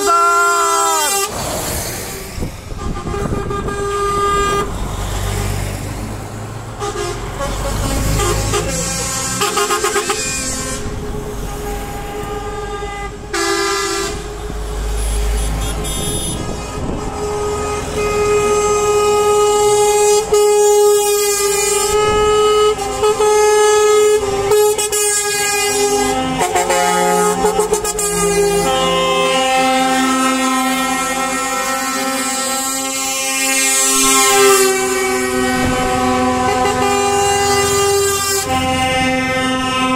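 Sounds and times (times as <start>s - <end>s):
truck air horn blasts: 0.0s - 1.4s, 2.3s - 5.7s, 6.7s - 39.9s
engines rumbling: 0.0s - 39.9s.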